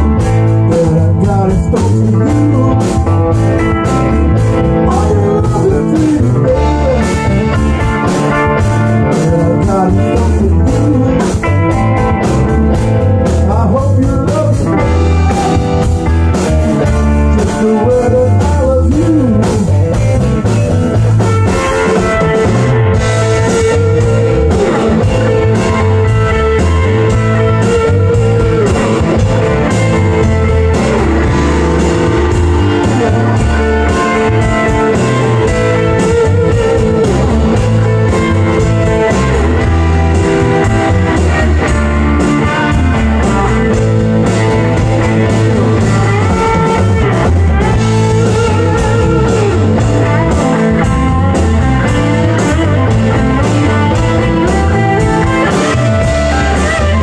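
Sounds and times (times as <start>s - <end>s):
blues-rock band playing: 0.0s - 57.0s.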